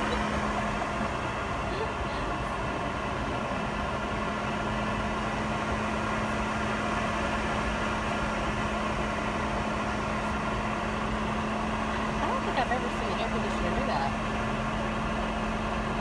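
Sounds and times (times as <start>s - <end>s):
jet engines humming in cabin: 0.0s - 16.0s.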